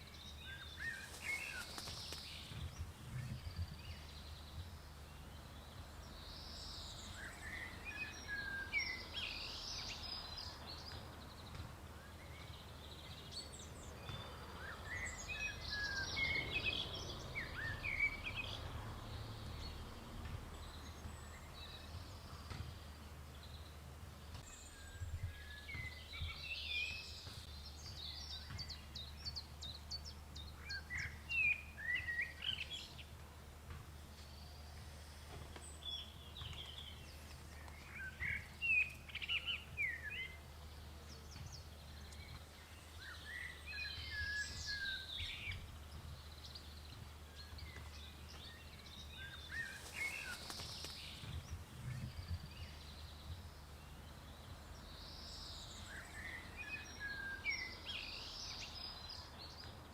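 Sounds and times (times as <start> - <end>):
small birds chirping and singing: 0.0 - 59.9.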